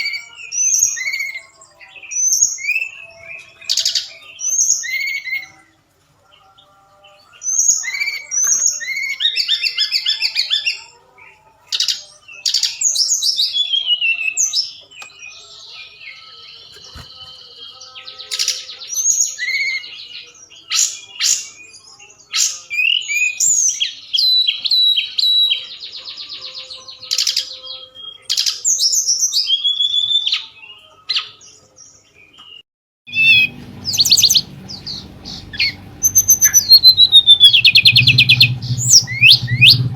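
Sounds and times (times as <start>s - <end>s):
bird singing chirps and trills: 6.3s - 39.9s.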